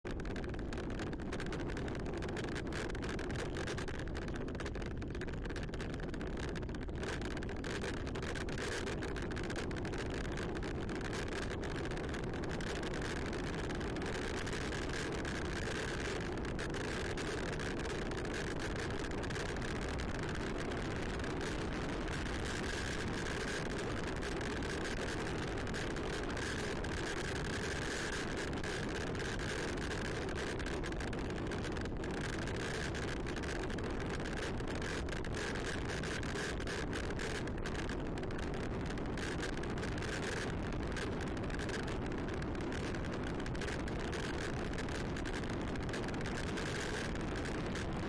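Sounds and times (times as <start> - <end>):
bicycle rolling along trail: 0.1 - 48.0
small clicks and rattles: 0.1 - 48.0.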